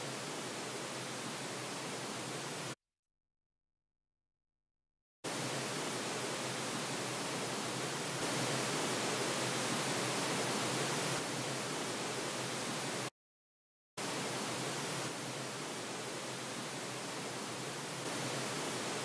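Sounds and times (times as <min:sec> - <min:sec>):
pink noise hiss: 0:00.0 - 0:02.8, 0:05.3 - 0:13.1, 0:14.0 - 0:19.0.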